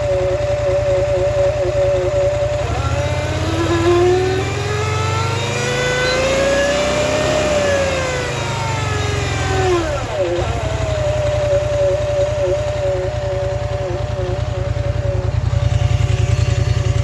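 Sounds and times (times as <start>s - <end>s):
engine revving: 0.0s - 17.0s
rising whine: 0.0s - 17.0s.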